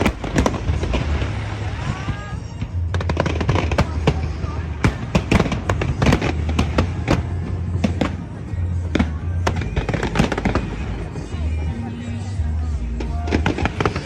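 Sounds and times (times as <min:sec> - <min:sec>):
fireworks bangs and crackles: 0:00.0 - 0:14.0
loud show music with bass: 0:00.0 - 0:14.0.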